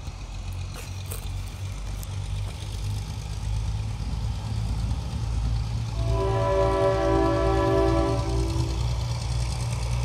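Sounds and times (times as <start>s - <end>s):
diesel locomotive engine rumbling: 0.0s - 10.0s.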